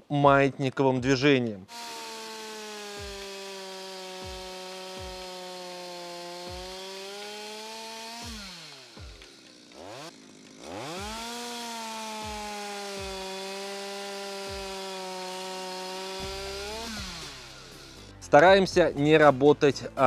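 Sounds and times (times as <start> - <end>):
chainsaw cutting wood: 1.7 - 18.3.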